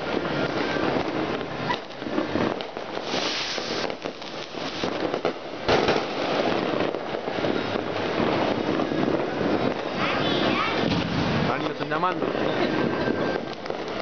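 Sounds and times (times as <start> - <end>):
firecrackers crackling: 0.0 - 14.0
loud firework bang: 0.0 - 14.0.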